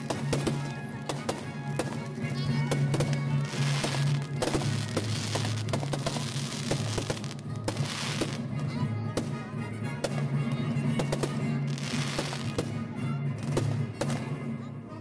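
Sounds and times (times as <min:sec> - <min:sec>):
fireworks bangs and crackling: 0:00.0 - 0:14.6
music with low bass: 0:00.0 - 0:15.0.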